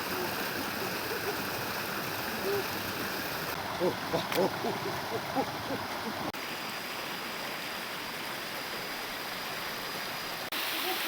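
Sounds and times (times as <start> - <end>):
flowing stream water: 0.0 - 11.0.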